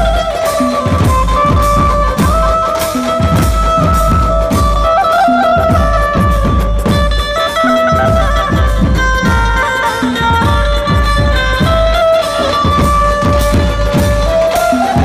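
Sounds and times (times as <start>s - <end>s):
heavy drum beats: 0.0s - 15.0s
held melody line: 0.0s - 15.0s.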